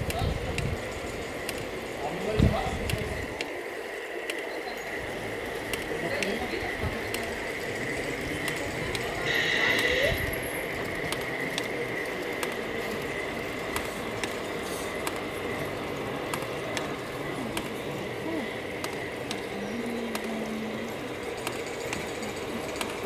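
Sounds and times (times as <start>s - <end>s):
model train motor whine: 0.0s - 23.0s
wheels clicking over rail joints: 0.0s - 23.0s.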